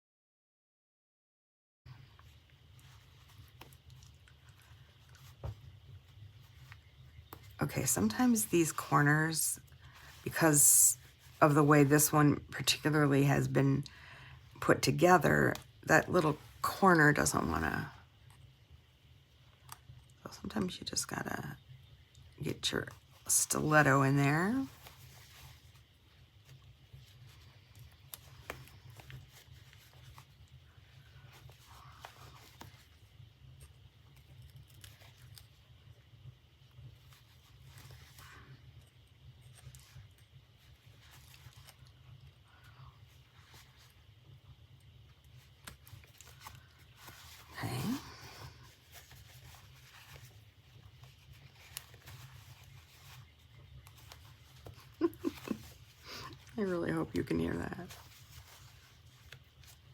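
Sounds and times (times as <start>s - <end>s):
low steady hum: 1.9s - 59.9s.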